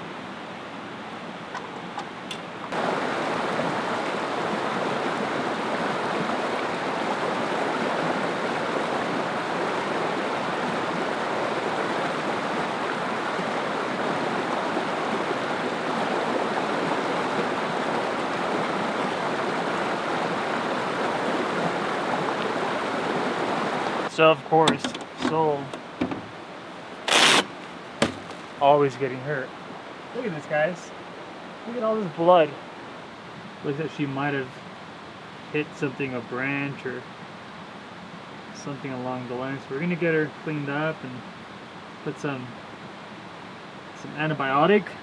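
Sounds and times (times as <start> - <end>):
creek water running: 0.0 - 45.0.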